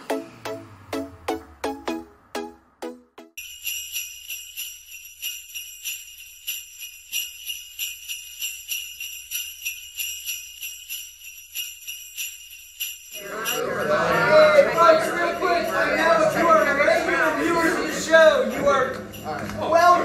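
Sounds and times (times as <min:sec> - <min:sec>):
jingle bells shaken: 0:03.4 - 0:20.0.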